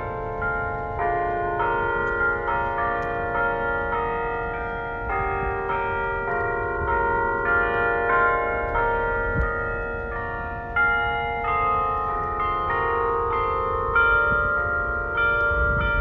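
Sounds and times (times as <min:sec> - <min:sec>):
church bells ringing a tune: 0:00.0 - 0:16.0.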